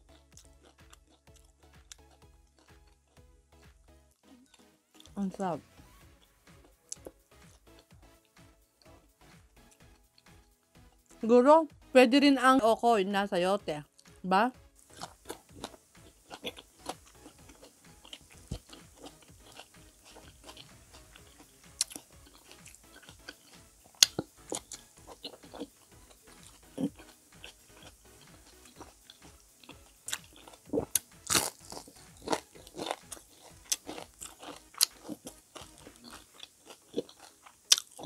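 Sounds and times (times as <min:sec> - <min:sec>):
crunching and chewing fritters: 0:00.0 - 0:11.2, 0:14.8 - 0:38.0.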